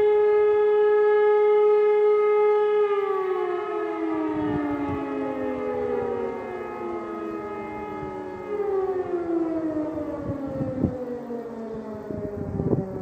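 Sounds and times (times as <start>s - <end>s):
siren winding down: 1.1s - 13.0s.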